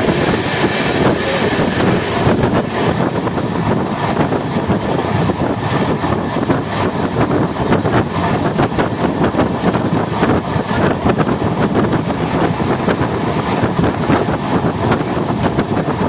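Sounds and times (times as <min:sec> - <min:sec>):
train wheels rumbling and clattering: 0:00.0 - 0:16.0
wind buffeting microphone: 0:00.0 - 0:16.0.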